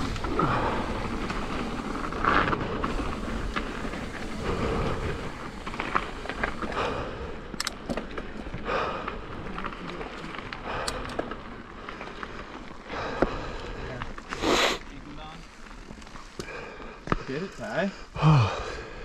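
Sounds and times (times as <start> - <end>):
bike rattling: 0.0 - 19.0
bike tyres crunching on dirt: 0.0 - 19.0.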